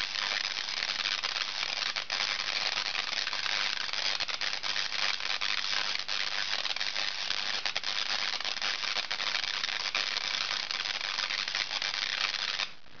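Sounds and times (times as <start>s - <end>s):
tesla coil crackling buzz: 0.0s - 13.0s.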